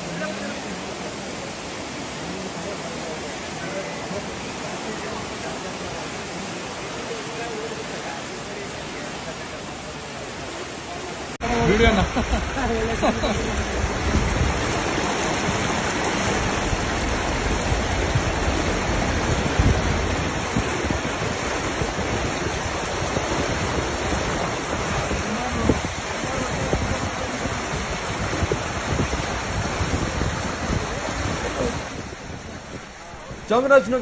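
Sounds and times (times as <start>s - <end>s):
water rushing and splashing: 0.0s - 34.0s.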